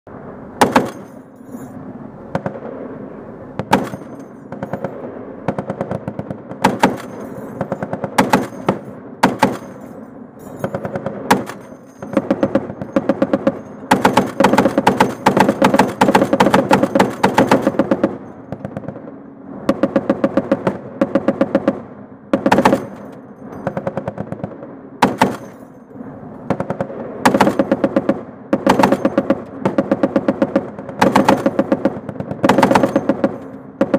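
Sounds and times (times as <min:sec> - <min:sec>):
heavy machine gun firing bursts: 0:03.6 - 0:09.8, 0:10.6 - 0:25.5, 0:26.4 - 0:33.9.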